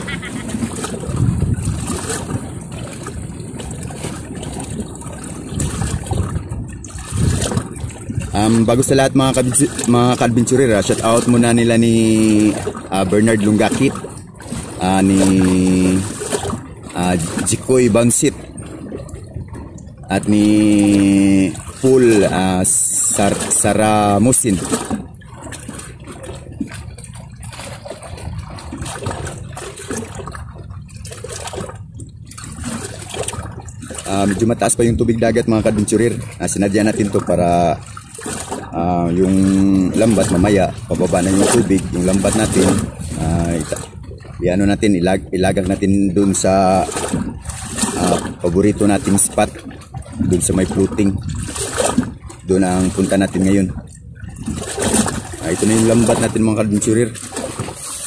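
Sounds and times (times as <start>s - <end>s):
sea water washing against rocks: 0.0s - 58.0s.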